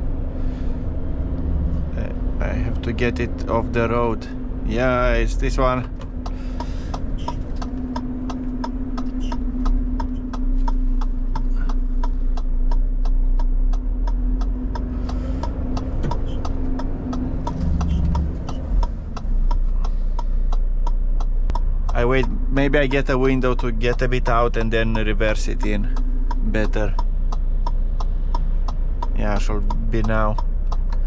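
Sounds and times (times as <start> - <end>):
diesel engine running: 0.0 - 31.0
turn indicator ticking: 0.0 - 31.0.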